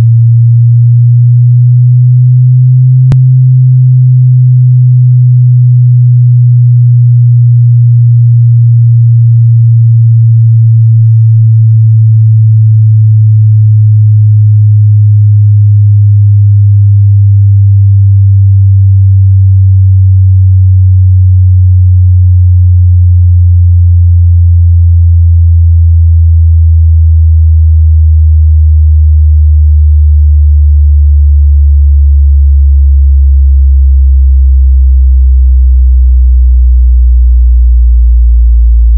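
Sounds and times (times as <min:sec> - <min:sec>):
sine tone sweeping down: 0:00.0 - 0:38.9.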